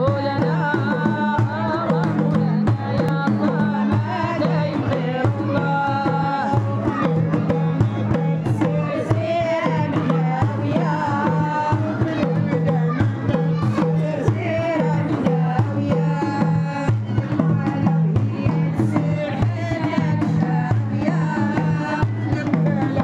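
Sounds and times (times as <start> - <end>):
hand drum percussion: 0.0 - 23.0.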